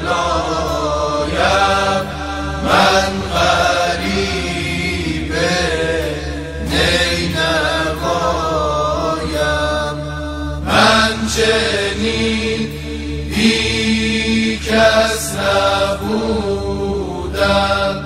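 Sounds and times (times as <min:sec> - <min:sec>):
lead voice singing ornamented lines: 0:00.0 - 0:18.0
male group chanting lament: 0:00.0 - 0:18.0
steady low drone: 0:00.0 - 0:18.0.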